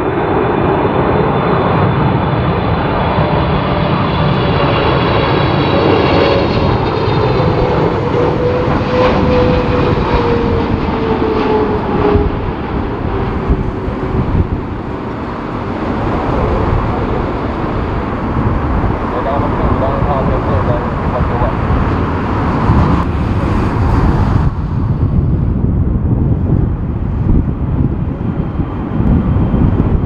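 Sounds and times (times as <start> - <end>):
jet engine roar: 0.0 - 30.0
wind rumble on microphone: 0.0 - 30.0.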